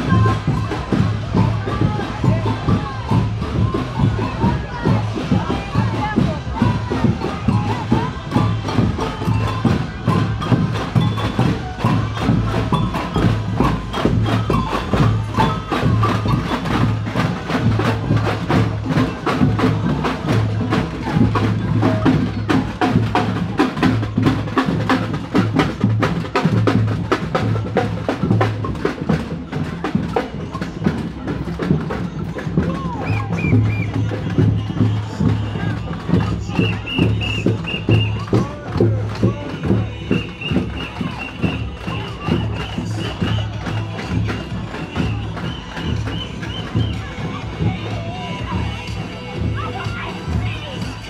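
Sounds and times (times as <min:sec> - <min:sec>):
percussion band drumming: 0:00.0 - 0:51.0.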